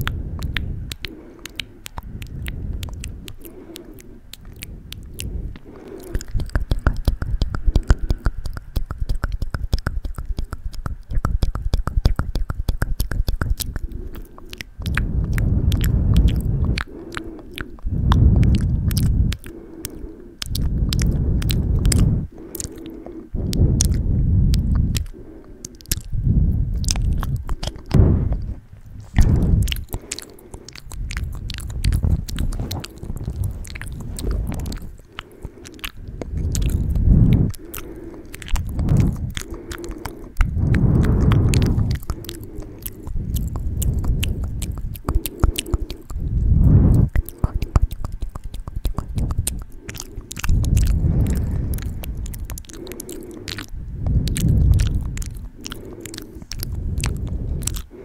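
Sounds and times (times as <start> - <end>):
muffled low rumbling: 0.0 - 10.0, 10.8 - 58.0
wet mouth clicks and smacks: 0.0 - 58.0.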